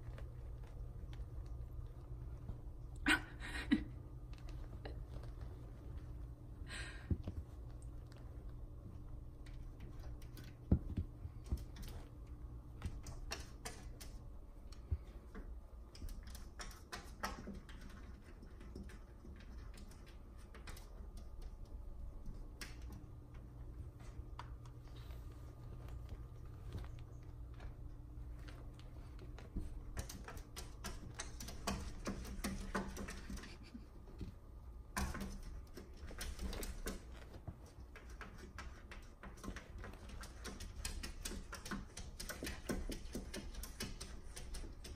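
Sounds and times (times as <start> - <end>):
faint low hum: 0.0 - 44.9.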